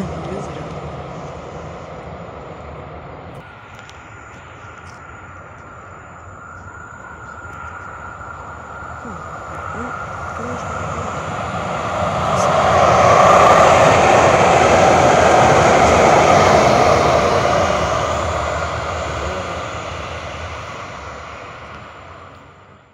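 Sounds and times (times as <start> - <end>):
train passing rumble: 0.0 - 22.9.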